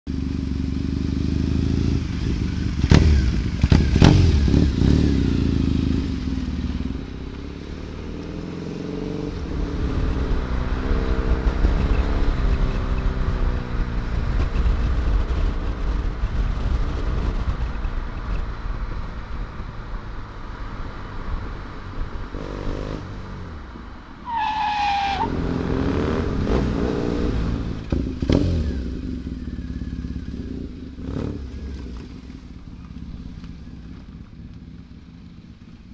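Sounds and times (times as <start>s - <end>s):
motorcycle engine revving: 0.1s - 35.9s.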